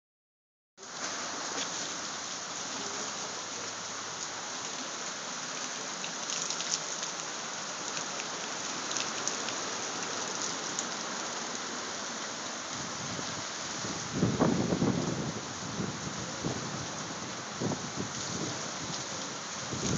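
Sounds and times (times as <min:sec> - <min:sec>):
heavy rain pouring: 0:00.8 - 0:19.9.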